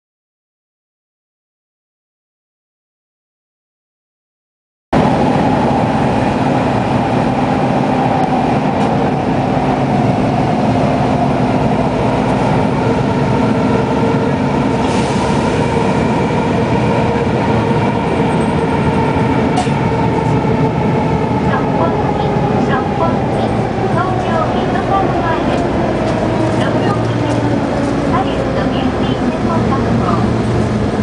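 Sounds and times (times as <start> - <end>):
train wheels and motors rumbling: 5.0 - 31.0.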